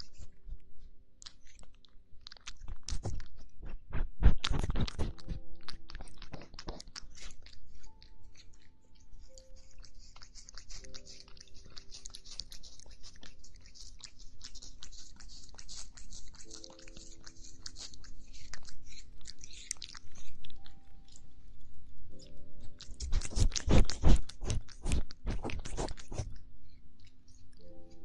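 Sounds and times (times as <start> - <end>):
cat crunching food: 0.0 - 0.5, 1.2 - 27.6.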